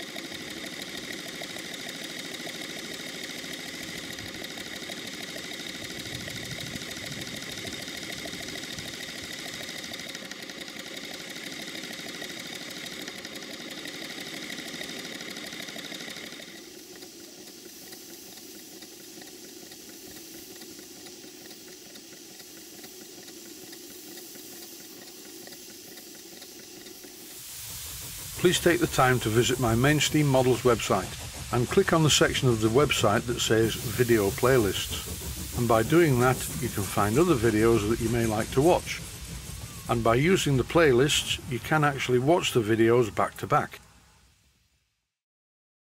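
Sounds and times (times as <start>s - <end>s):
model steam engine exhaust beats: 0.0s - 44.8s
steam hiss: 0.0s - 44.9s.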